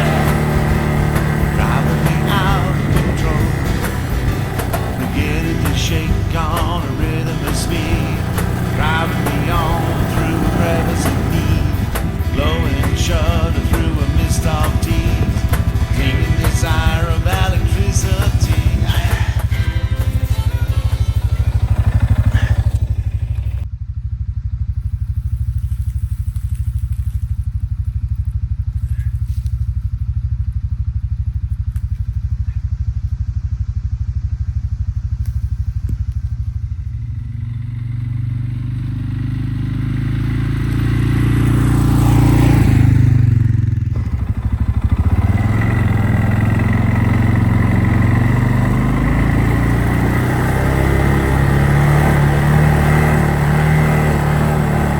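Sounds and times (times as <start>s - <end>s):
atv engine revving: 0.0s - 54.9s.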